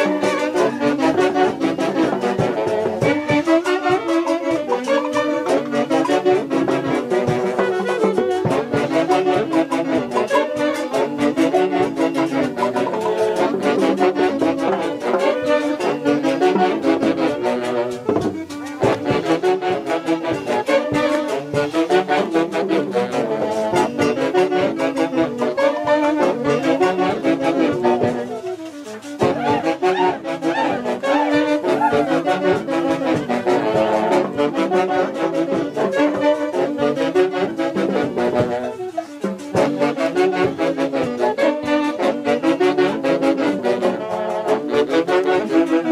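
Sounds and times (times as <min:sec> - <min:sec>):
wind band with saxophones and brass: 0:00.0 - 0:45.9.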